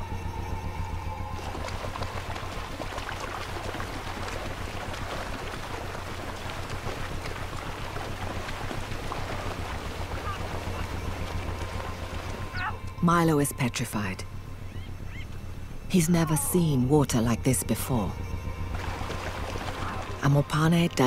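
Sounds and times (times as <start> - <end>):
water splashing and sloshing: 1.0 - 15.4, 16.5 - 21.0.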